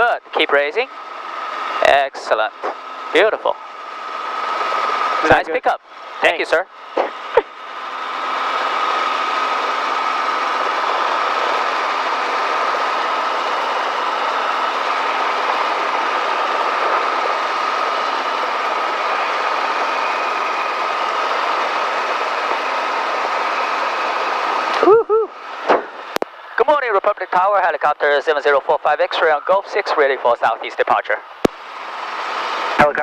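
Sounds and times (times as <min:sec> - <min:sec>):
constant whine: 0:00.0 - 0:33.0
helicopter engine and rotor din: 0:00.0 - 0:33.0.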